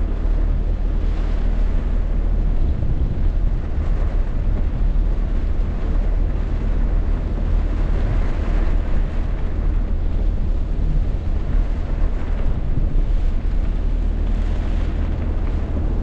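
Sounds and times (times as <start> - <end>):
rain: 0.0 - 16.0
wind buffeting microphone: 0.0 - 16.0.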